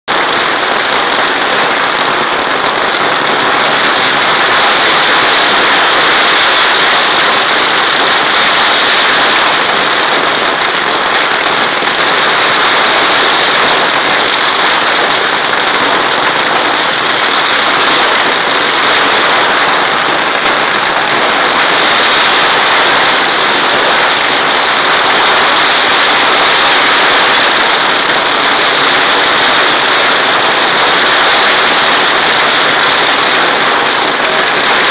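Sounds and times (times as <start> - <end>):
fireworks crackling: 0.1 - 34.9.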